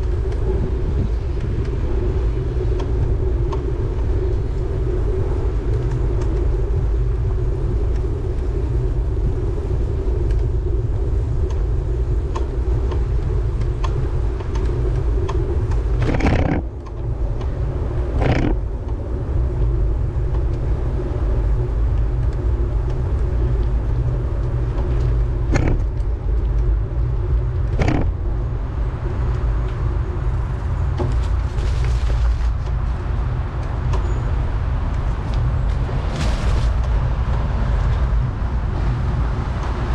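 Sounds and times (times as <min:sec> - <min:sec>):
road noise from bike: 0:00.0 - 0:39.9
wind rumble: 0:00.0 - 0:39.9.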